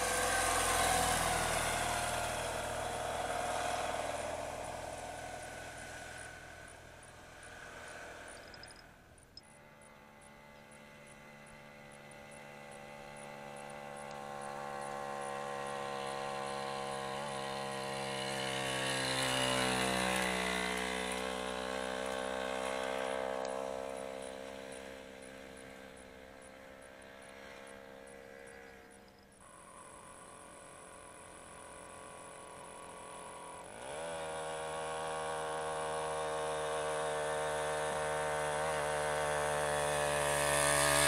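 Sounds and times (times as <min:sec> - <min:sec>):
motorcycle engine passing: 0:00.0 - 0:41.0.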